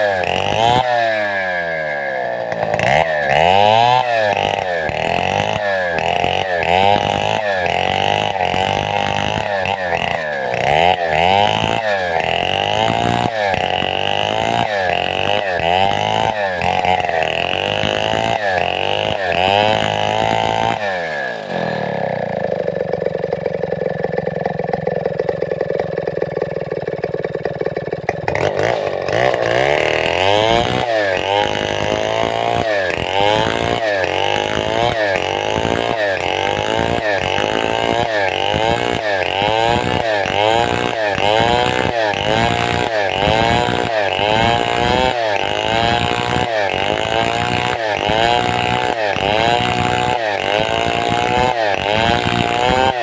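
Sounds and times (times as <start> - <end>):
chainsaw idling: 0.0 - 53.0
chainsaw revving: 0.0 - 53.0.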